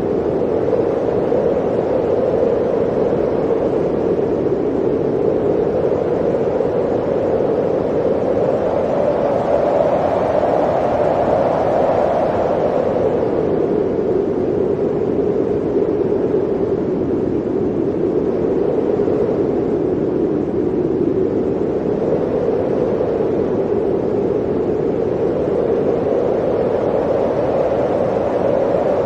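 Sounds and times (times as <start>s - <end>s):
blizzard wind howling: 0.0s - 29.0s.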